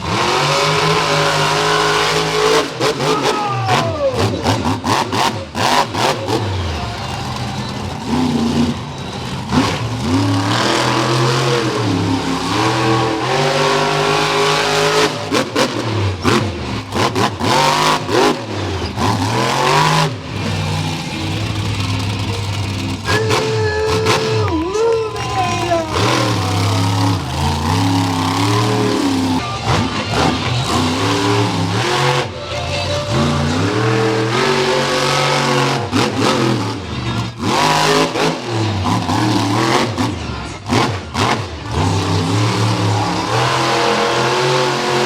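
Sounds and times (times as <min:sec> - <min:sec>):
truck engine revving hard: 0:00.0 - 0:45.0.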